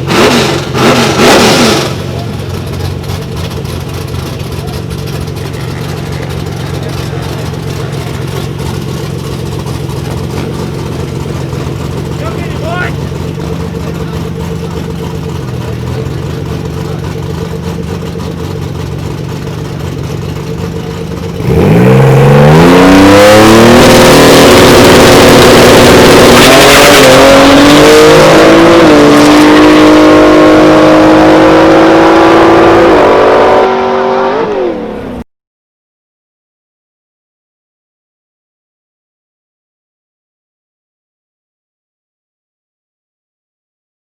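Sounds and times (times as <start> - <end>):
car engine revving: 0.0 - 35.2.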